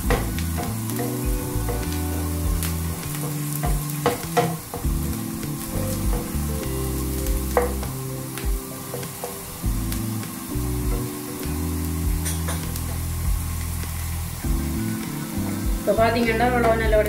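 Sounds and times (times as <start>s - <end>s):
onions sizzling in oil: 0.0s - 17.0s
soft background music: 0.0s - 17.0s.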